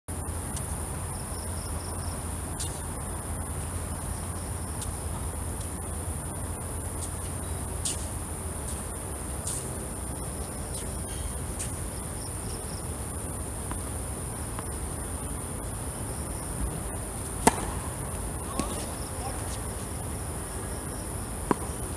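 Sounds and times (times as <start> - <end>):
night insects chirring: 0.2 - 21.9.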